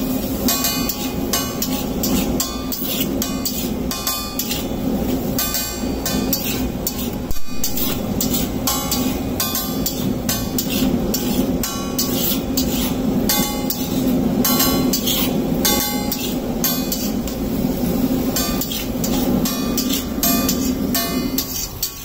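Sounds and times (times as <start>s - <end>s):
metal spatula clanging on griddle: 0.0s - 22.0s
steady low hum: 0.0s - 22.0s.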